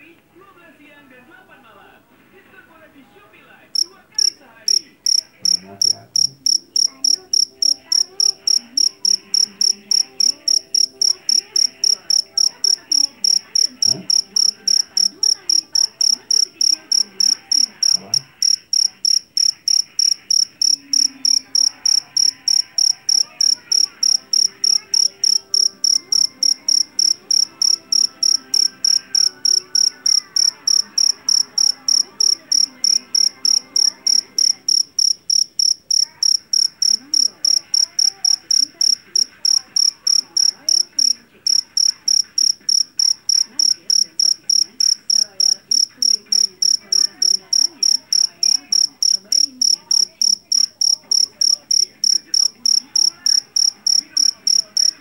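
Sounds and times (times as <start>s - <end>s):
cricket chirping shrilly: 3.8s - 55.0s.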